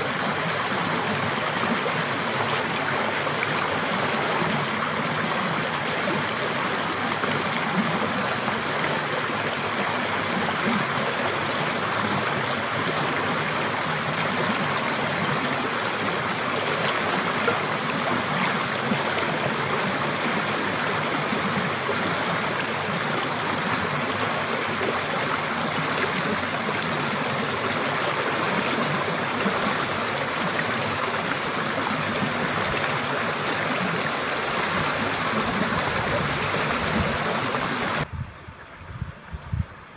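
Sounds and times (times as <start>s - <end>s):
stream rushing over rocks: 0.0s - 38.1s.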